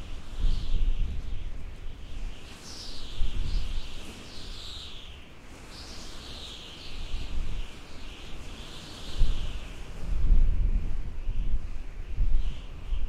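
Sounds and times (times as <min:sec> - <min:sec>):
low gusting wind rumble: 0:00.0 - 0:05.4, 0:06.8 - 0:13.0.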